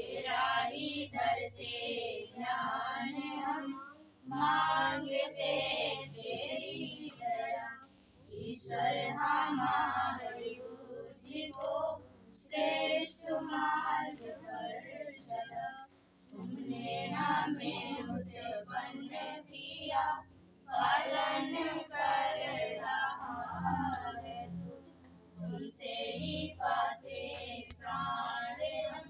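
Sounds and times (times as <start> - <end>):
voices chanting together: 0.0 - 29.0.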